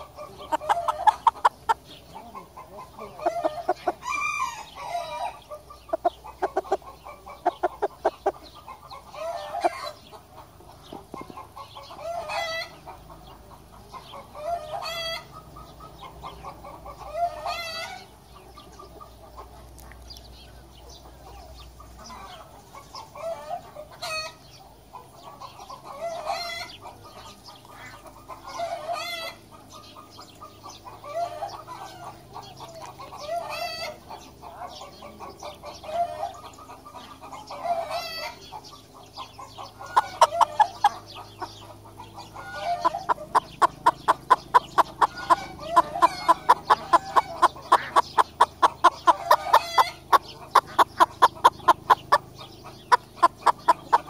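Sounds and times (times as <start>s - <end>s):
rooster clucking calls: 0.0s - 19.6s, 21.0s - 54.0s.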